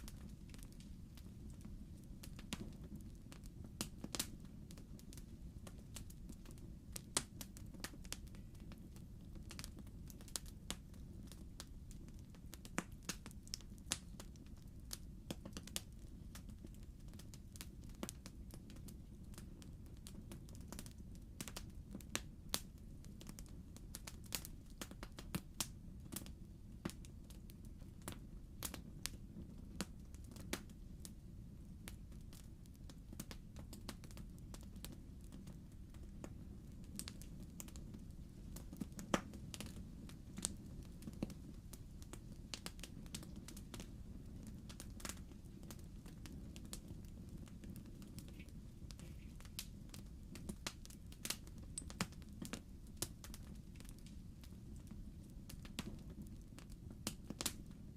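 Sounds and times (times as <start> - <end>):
fire pops and snaps: 0.0 - 31.2, 31.8 - 57.8
low rumble of flames: 0.0 - 57.9.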